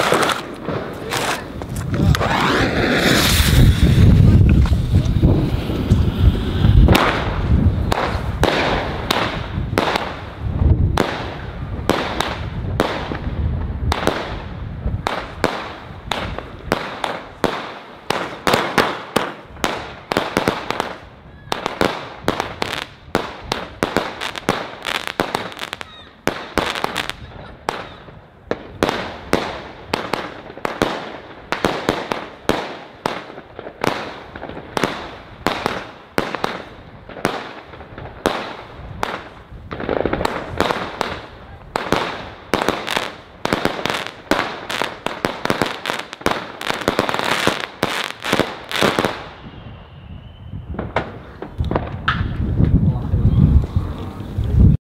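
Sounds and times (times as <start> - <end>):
firework bangs with crackle: 0.0 - 53.8.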